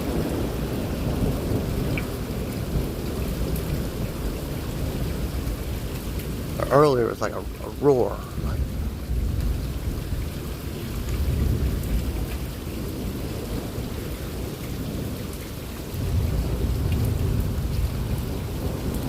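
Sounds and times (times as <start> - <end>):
rolling thunder rumbling: 0.0 - 19.0.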